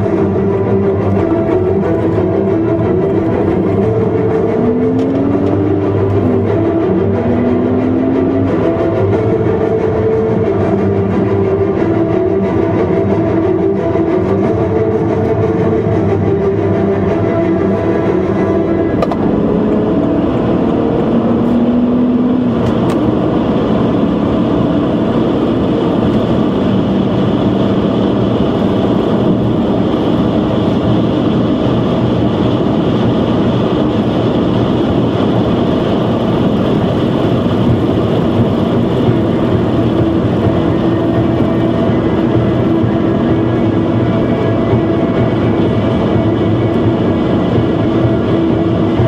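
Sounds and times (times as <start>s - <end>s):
car engine pulling under load: 0.0s - 49.0s
road and wind noise: 0.0s - 49.0s.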